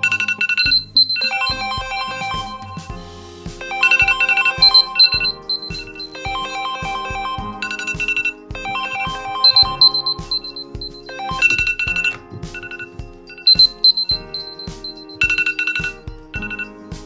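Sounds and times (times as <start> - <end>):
smartphone alarm tone: 0.0 - 3.0, 3.6 - 16.6.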